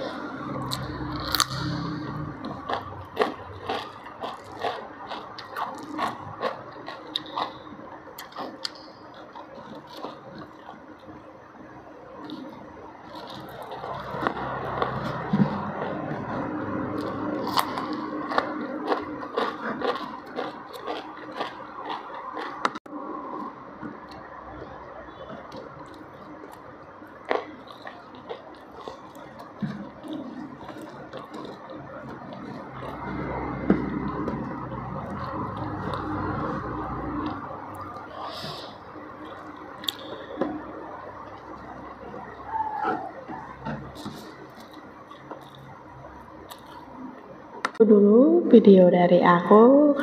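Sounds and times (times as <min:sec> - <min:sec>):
crunchy chewing: 0:00.0 - 0:22.9, 0:23.8 - 0:47.2.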